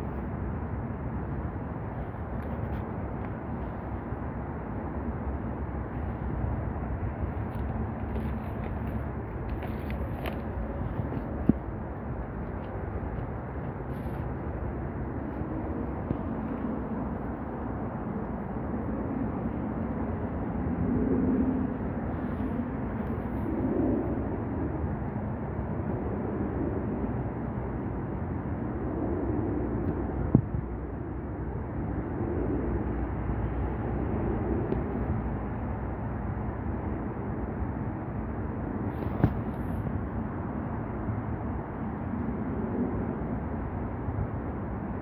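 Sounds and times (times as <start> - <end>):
city traffic rumble: 0.0 - 45.0.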